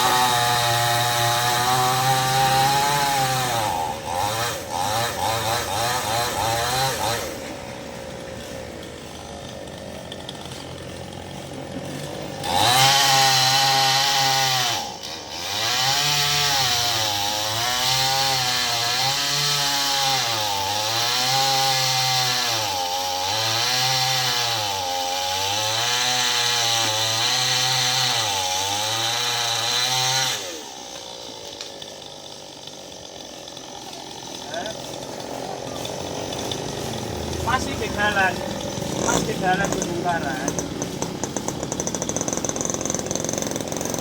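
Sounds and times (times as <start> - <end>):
chainsaw cutting wood: 0.0 - 44.0.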